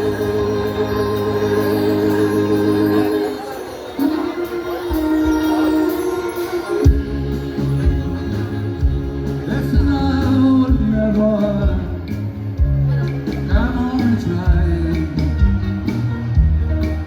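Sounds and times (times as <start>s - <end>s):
live dance band playing: 0.0s - 17.0s.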